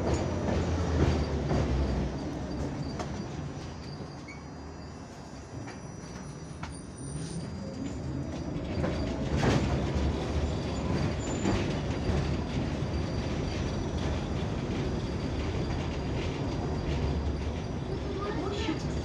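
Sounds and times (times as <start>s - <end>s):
tram running: 0.0s - 19.0s.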